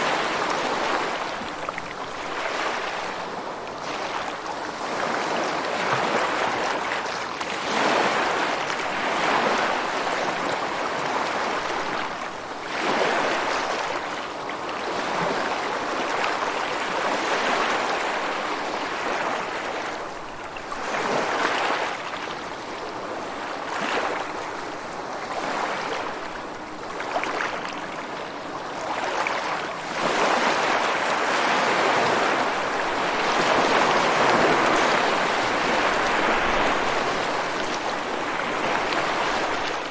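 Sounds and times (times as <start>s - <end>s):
waves breaking ashore: 0.0s - 20.0s, 23.0s - 39.9s.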